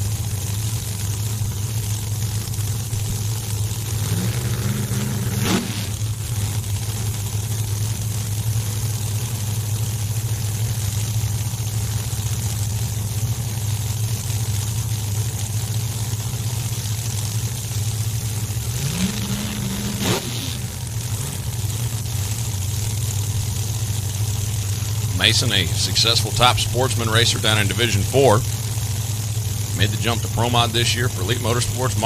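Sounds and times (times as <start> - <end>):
drag car engines idling: 0.0 - 32.0
engine throttle blip: 0.0 - 32.0.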